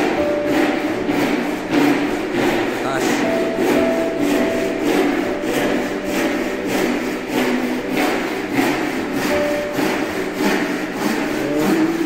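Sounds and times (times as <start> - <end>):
handsaw cutting wood: 0.0 - 12.0.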